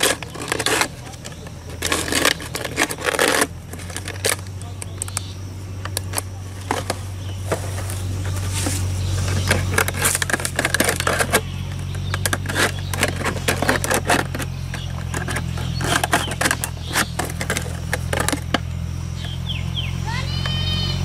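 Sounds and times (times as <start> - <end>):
plastic bottle crackling: 0.0 - 18.7
steady low hum: 0.0 - 21.0.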